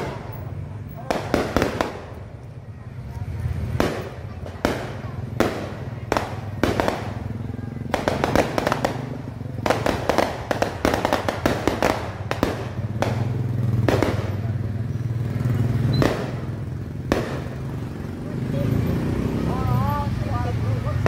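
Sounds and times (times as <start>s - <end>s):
firecrackers banging: 0.0s - 21.0s.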